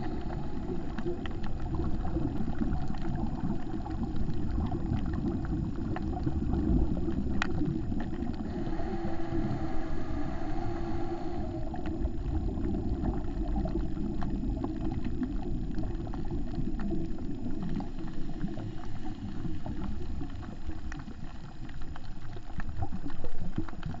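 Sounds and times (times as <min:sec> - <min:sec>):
bubbling: 0:00.0 - 0:24.0
muffled low underwater rumble: 0:00.0 - 0:24.0.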